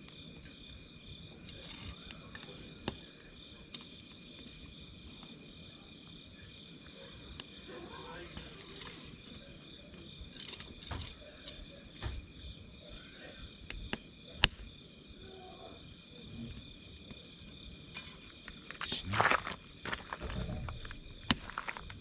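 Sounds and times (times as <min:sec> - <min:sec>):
campfire crackling and popping: 0:00.0 - 0:15.2, 0:16.5 - 0:22.0.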